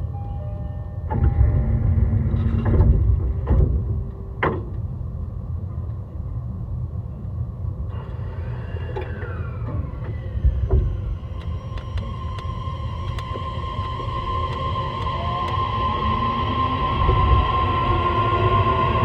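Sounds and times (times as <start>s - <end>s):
train motor whine: 0.0s - 4.9s, 7.9s - 19.0s
train wheels rumbling on rails: 1.0s - 19.0s.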